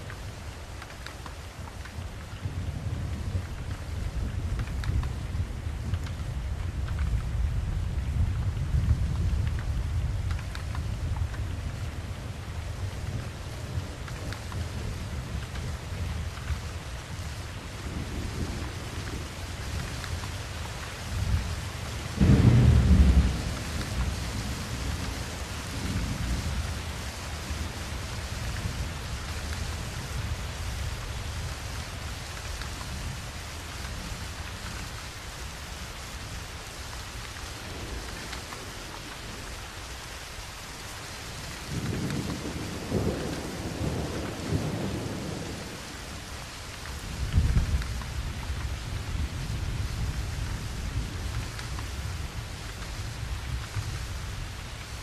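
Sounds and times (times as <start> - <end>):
steady rain: 0.0 - 55.0
thunder rumbling: 2.4 - 33.2, 37.1 - 55.0.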